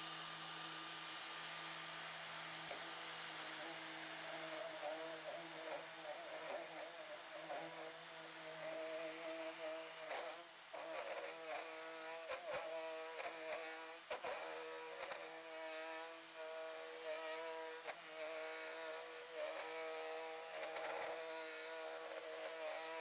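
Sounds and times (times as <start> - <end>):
router cutting wood: 0.0 - 23.0
small vacuum cleaner: 0.0 - 23.0.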